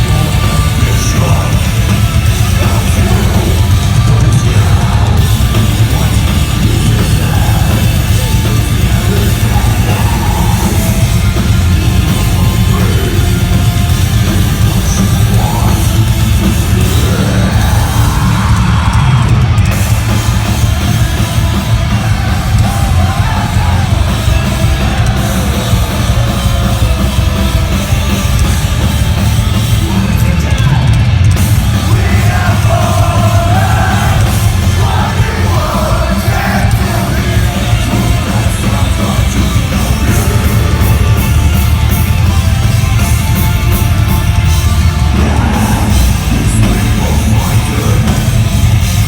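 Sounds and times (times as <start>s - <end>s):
shouted vocals: 0.0s - 41.6s, 44.8s - 49.0s
bass: 0.0s - 49.0s
heavy guitars: 0.0s - 49.0s
pounding drums: 0.0s - 49.0s.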